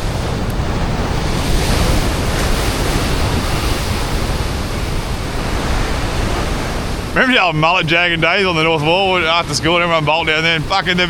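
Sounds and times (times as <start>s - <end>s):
ocean swell washing over rocks: 0.0s - 11.0s
wind buffeting microphone: 0.0s - 11.0s.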